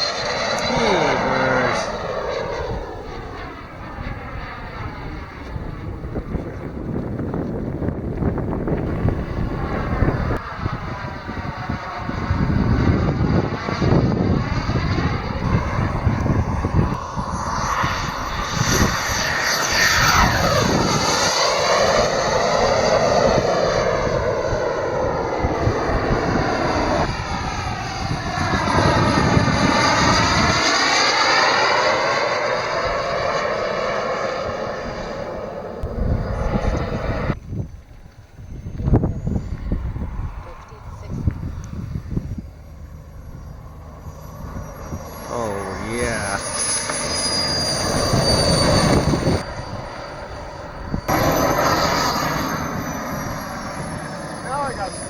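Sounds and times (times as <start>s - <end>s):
jet turbine roaring past: 0.0s - 55.0s.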